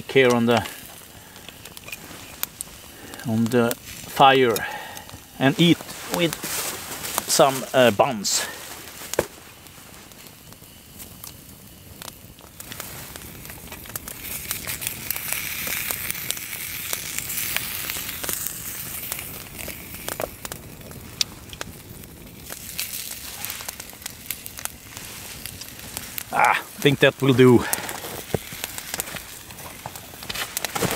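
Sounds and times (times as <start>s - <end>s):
campfire crackling and popping: 0.0s - 30.9s
sausage sizzling in frying pan: 0.0s - 30.9s.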